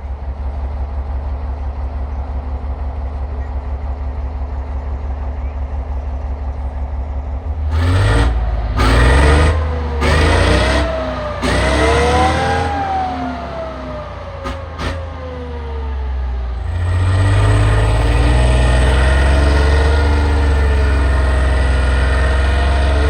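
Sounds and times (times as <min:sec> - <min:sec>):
heavy vehicle engine shifting gears: 0:00.0 - 0:23.0.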